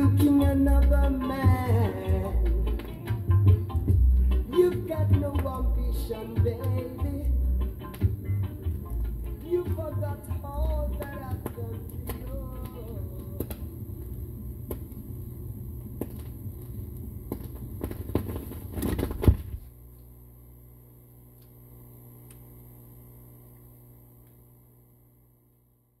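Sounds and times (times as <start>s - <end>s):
record changer mechanism humming: 0.0s - 25.7s
record surface crackle and rumble: 0.0s - 26.0s.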